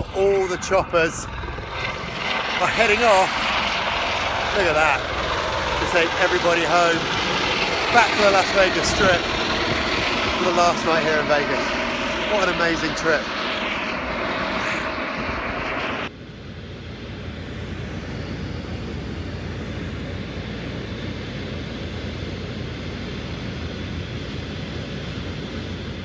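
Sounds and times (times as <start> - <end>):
helicopter drone: 0.0 - 26.0
helicopter rotor and engine: 0.0 - 26.0.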